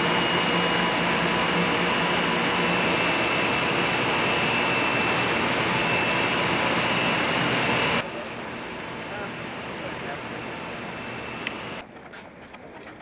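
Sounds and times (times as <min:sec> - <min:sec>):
faint high whine: 0:00.0 - 0:11.8
pool equipment machinery noise: 0:00.0 - 0:13.0.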